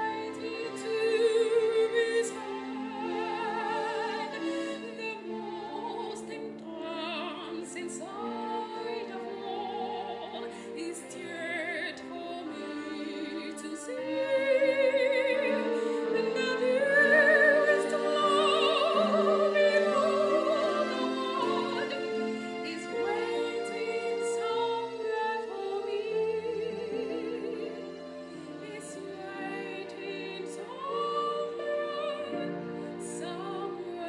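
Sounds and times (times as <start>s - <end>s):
woman singing operatically: 0.0s - 34.0s.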